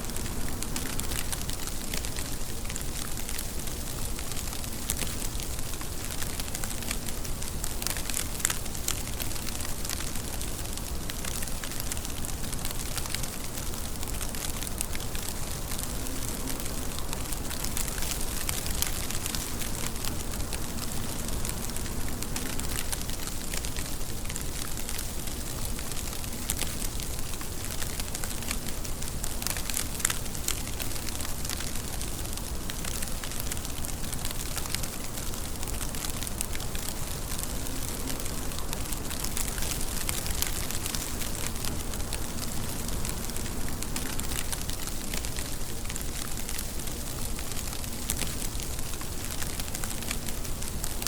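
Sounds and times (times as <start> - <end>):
steady rain hiss: 0.0 - 51.0
raindrops tapping on a surface: 0.1 - 51.0.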